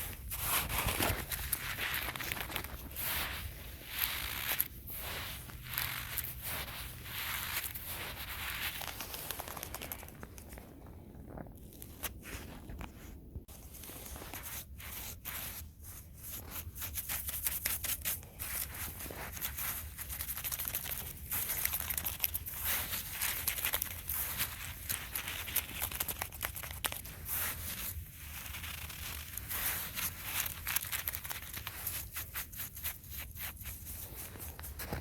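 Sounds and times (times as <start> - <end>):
crinkling and rustling in garden: 0.0 - 35.0.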